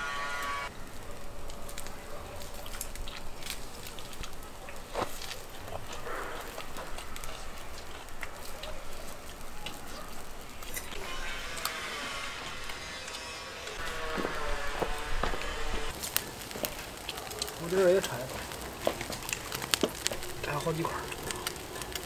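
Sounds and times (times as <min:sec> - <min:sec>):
charcoal grill crackling and popping: 0:00.0 - 0:22.0.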